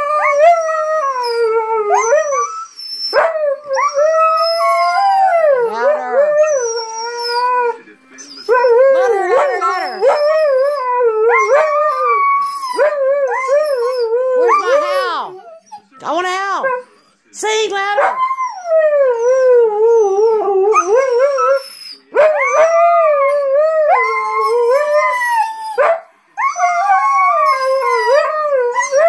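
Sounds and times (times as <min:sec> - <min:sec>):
dog howling: 0:00.0 - 0:07.8, 0:08.4 - 0:15.8, 0:18.0 - 0:29.0.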